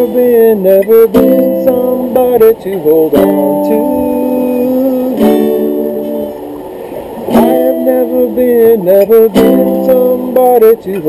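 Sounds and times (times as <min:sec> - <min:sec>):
person singing: 0:00.0 - 0:06.4, 0:07.3 - 0:11.0
guitar melody: 0:00.0 - 0:11.0.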